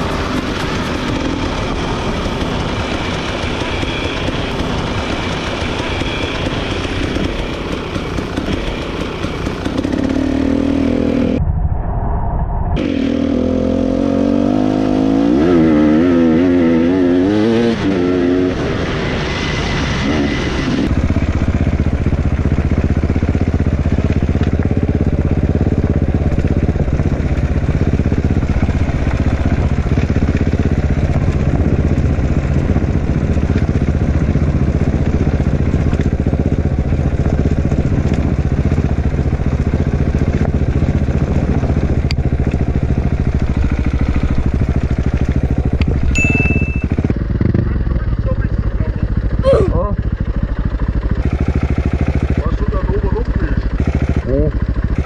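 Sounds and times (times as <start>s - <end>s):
dirt bike engine revving: 0.0s - 11.4s, 12.8s - 55.0s.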